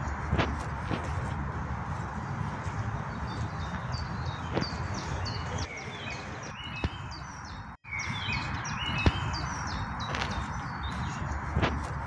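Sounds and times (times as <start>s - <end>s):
songbirds chirping: 0.0s - 12.0s
steady background noise: 0.0s - 12.0s.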